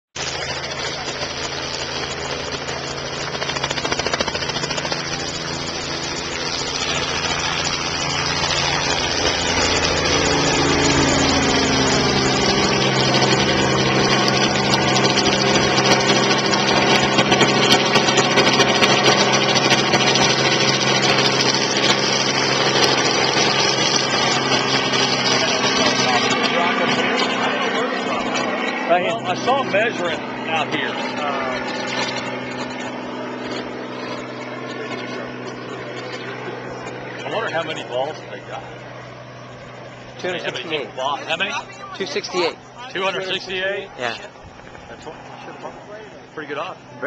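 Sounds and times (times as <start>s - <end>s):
helicopter flying overhead: 0.2s - 47.0s.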